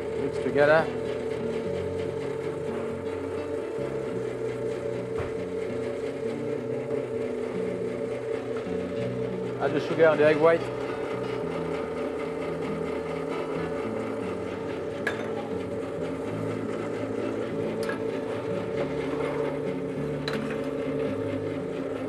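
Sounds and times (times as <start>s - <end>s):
stand mixer whisking: 0.0s - 22.0s.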